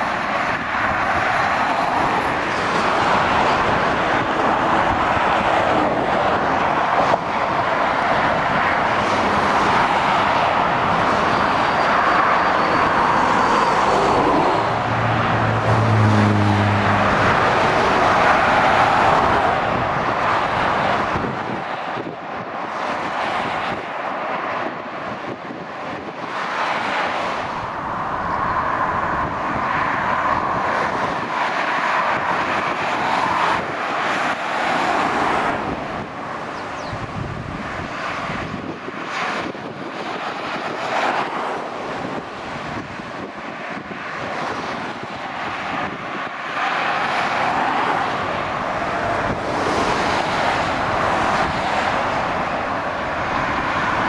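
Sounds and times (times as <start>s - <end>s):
motorway traffic passing: 0.0s - 54.0s.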